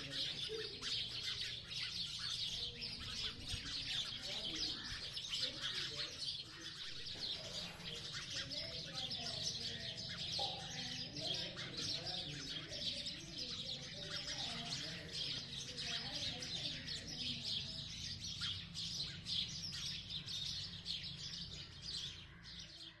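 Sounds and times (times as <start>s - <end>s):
sparrows chirping: 0.0s - 23.0s.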